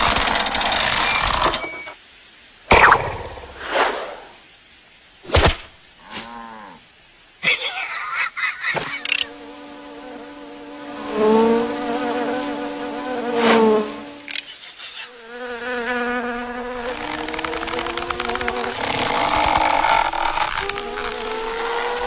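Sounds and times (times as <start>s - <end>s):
insect-like buzzing drone: 0.0s - 2.0s, 2.7s - 4.4s, 5.9s - 6.9s, 8.4s - 22.0s.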